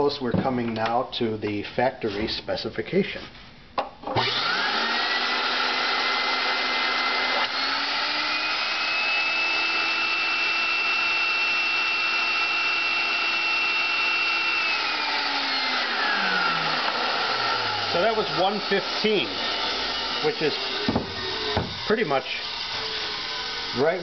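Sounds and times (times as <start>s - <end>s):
vacuum motor high whine: 4.2s - 24.0s.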